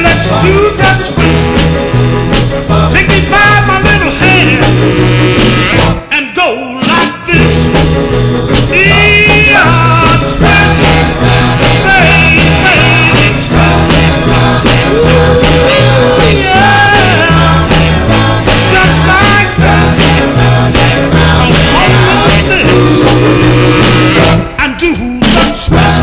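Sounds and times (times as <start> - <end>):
bass line: 0.0 - 6.1, 6.8 - 26.0
rock and roll song with singing: 0.0 - 26.0.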